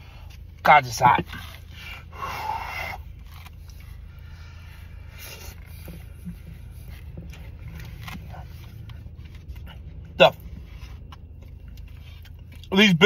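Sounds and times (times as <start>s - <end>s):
low steady car hum: 0.0s - 13.0s
person chewing food: 1.3s - 12.7s.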